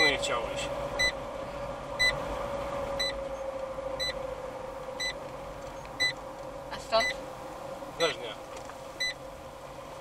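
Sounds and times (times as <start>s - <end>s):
car cabin driving hum: 0.0s - 10.0s.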